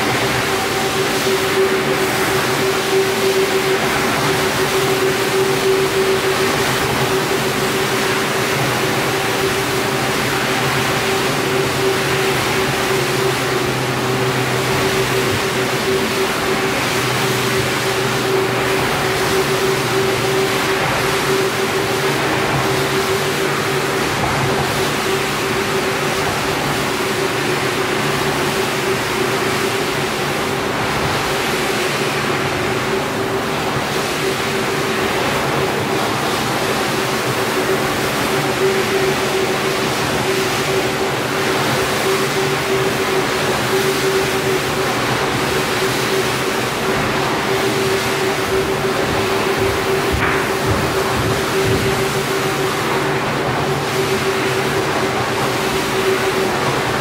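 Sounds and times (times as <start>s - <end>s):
floor scrubber motor hum: 0.0s - 57.0s.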